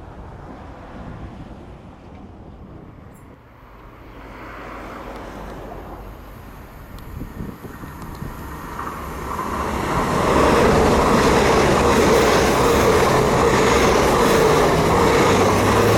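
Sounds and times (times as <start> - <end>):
outdoor background noise: 0.0 - 15.9
train approaching: 0.0 - 15.9.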